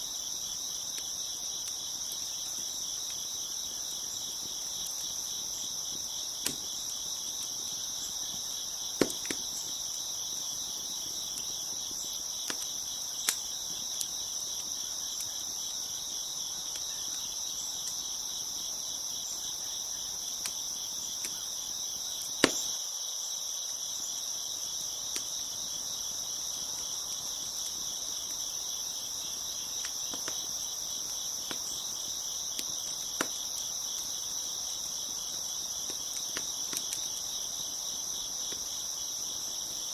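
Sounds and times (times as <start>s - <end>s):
wood fire crackling: 0.0s - 22.8s, 23.6s - 39.9s
crickets chirping: 0.0s - 39.9s.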